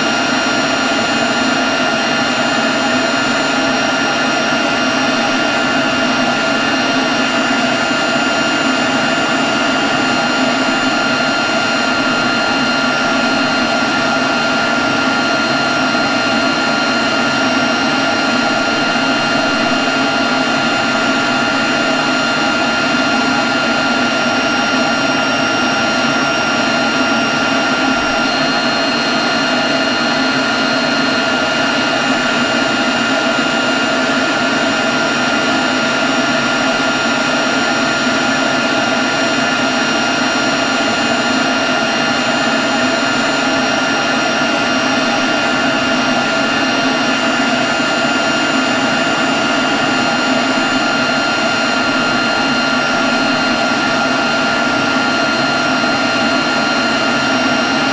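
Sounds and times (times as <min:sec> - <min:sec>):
leaf blower running: 0:00.0 - 0:57.9.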